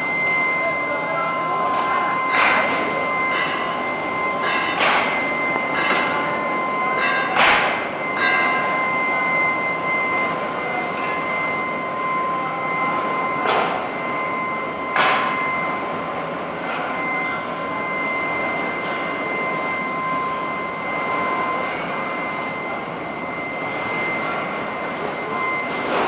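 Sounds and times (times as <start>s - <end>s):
furnace high-pitched whine: 0.0s - 26.0s.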